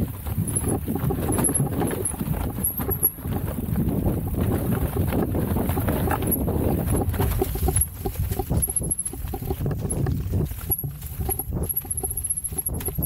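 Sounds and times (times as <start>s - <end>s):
small knocks and rattles: 0.0s - 13.0s
tyres rolling over rough ground: 0.0s - 13.0s.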